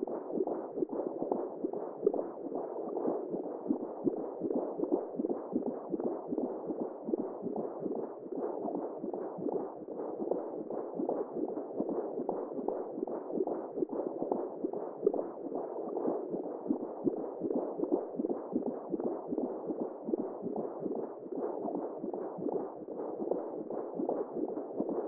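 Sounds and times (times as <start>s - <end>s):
muffled whooshing womb sound: 0.0s - 25.0s.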